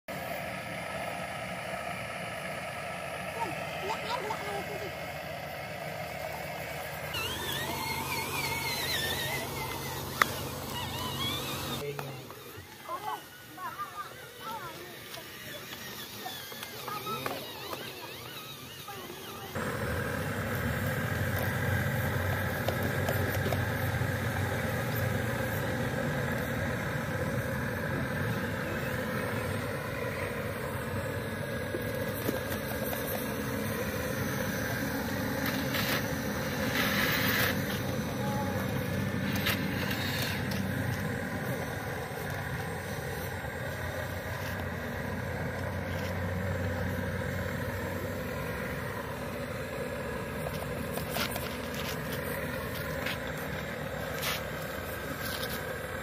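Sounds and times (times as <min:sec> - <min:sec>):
model excavator motor humming: 0:00.1 - 0:56.0.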